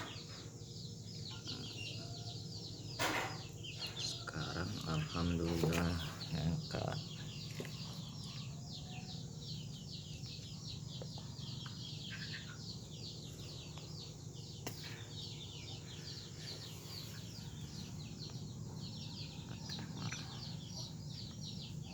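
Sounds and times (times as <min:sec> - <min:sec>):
refrigerator compressor hum: 0:00.0 - 0:21.9.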